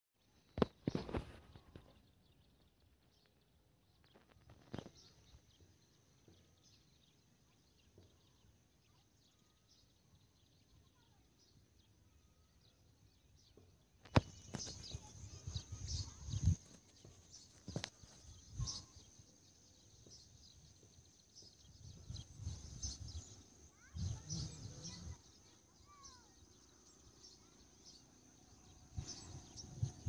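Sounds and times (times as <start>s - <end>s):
small bird chirps: 0.2s - 30.0s.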